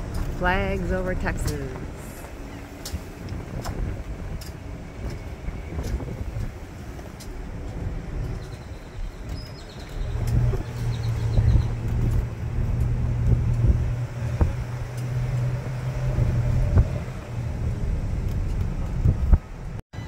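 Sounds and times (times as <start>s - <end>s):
pickup engine and road noise: 0.0s - 20.0s.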